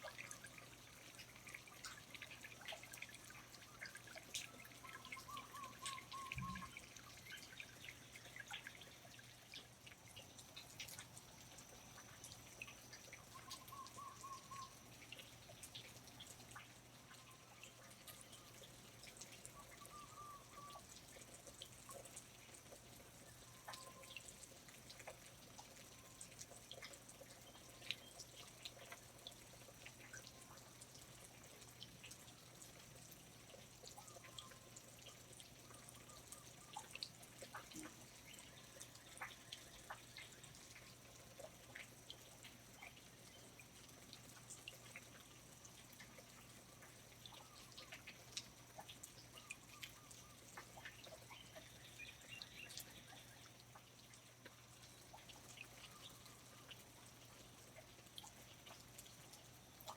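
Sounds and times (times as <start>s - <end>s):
soft high hiss: 0.0s - 59.9s
water dripping: 0.0s - 59.9s.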